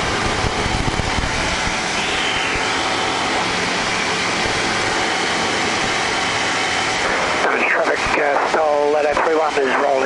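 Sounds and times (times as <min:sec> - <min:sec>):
aircraft engine and propeller: 0:00.0 - 0:10.0.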